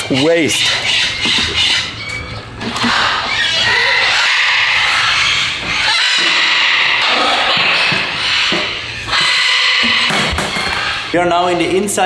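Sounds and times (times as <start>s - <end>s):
parrots screeching and squawking: 0.0s - 11.8s.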